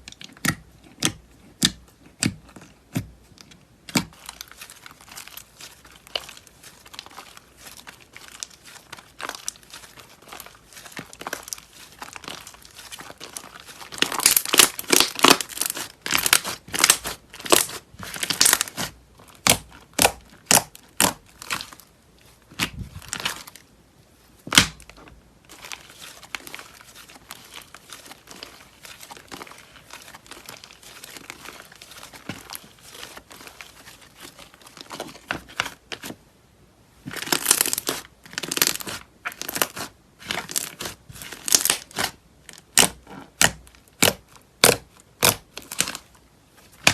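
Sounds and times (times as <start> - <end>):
slime crackling and popping: 3.8 - 23.6, 24.4 - 36.1, 37.0 - 46.9.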